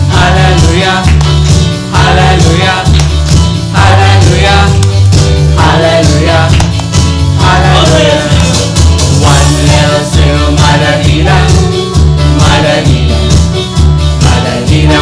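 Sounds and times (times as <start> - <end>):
bass line and drums: 0.0 - 15.0
voices singing: 0.0 - 15.0.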